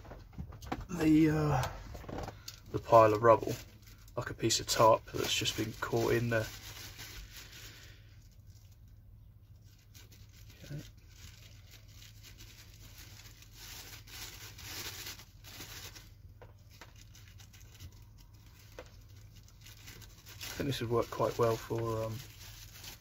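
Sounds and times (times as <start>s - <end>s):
plastic rustling and crinkling: 0.0s - 23.0s.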